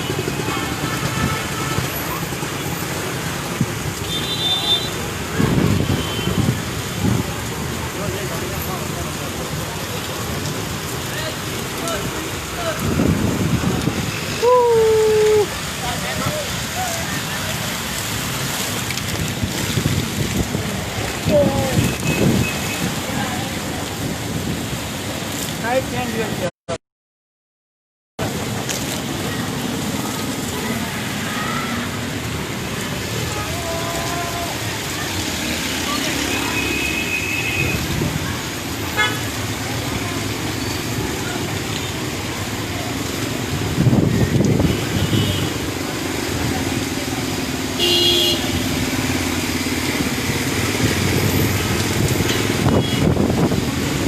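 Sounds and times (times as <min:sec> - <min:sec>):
heavy rain pouring: 0:00.0 - 0:26.5, 0:28.2 - 0:54.0.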